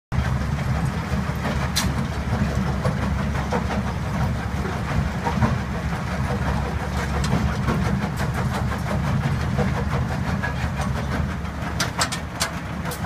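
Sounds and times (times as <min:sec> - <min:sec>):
concrete crusher rumbling: 0:00.2 - 0:13.0.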